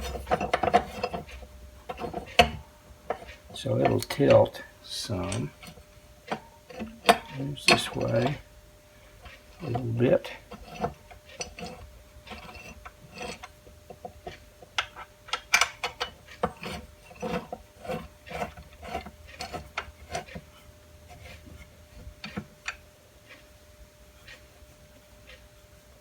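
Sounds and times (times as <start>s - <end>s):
metal parts clicking and scraping: 0.0s - 8.4s, 9.2s - 22.8s.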